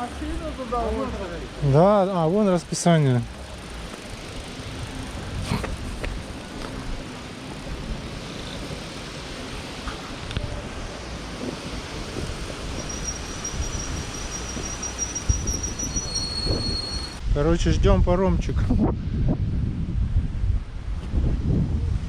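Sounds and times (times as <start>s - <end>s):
wind buffeting microphone: 4.2s - 22.0s.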